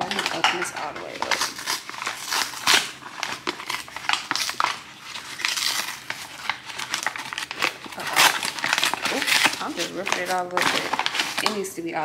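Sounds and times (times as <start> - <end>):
bag ripping: 0.0 - 11.6
paper bag crinkling and tearing: 0.0 - 11.7.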